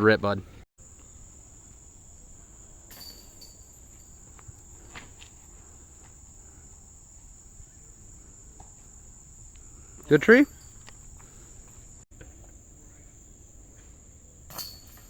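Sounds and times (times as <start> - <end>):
insects chirring: 0.8 - 15.0.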